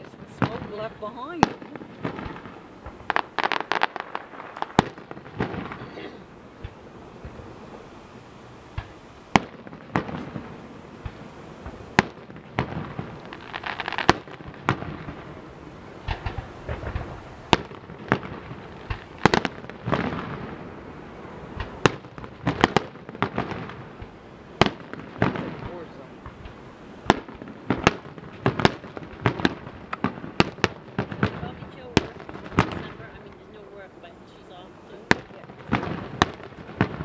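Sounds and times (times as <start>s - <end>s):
firework hiss: 0.0s - 37.0s
firework shells bursting: 0.0s - 37.0s.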